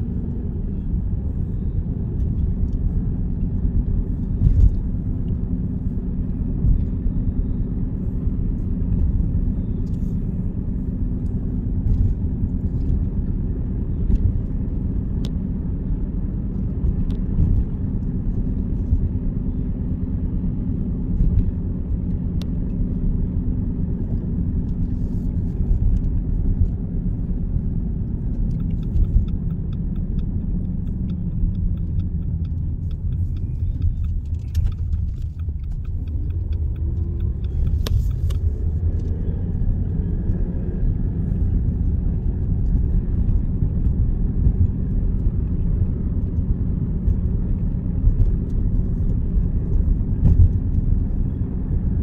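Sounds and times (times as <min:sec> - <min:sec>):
car interior road and engine rumble: 0:00.0 - 0:52.0.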